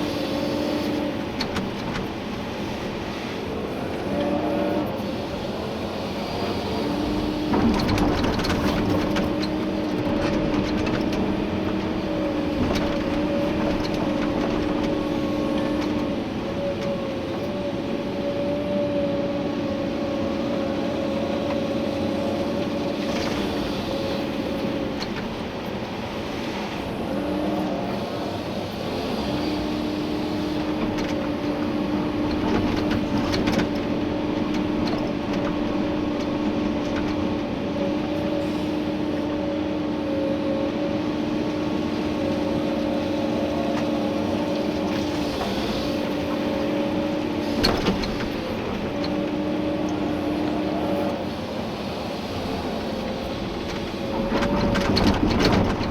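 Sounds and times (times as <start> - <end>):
excavator engine and hydraulics: 0.0 - 55.9.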